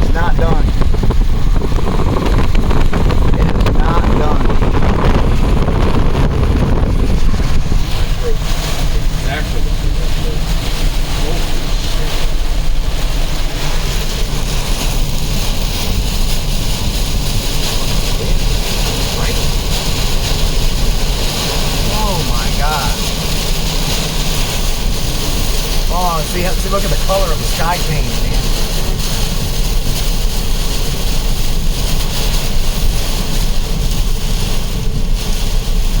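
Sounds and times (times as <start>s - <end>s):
vehicle road noise: 0.0s - 36.0s
wind buffeting microphone: 0.0s - 36.0s.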